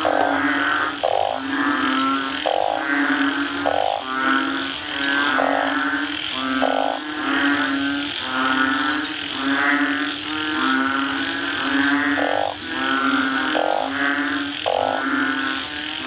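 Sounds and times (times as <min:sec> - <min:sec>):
frog-like croaking: 0:00.0 - 0:16.0.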